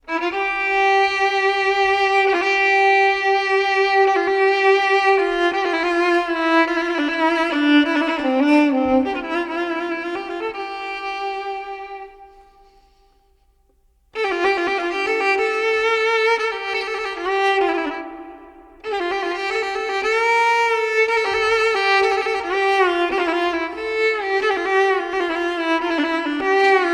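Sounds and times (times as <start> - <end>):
slow violin melody: 0.0 - 13.5, 14.1 - 26.9.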